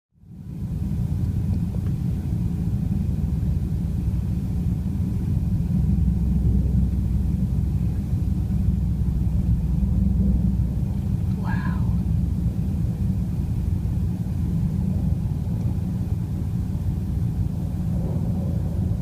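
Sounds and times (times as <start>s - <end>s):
steady low rumble: 0.2s - 19.0s.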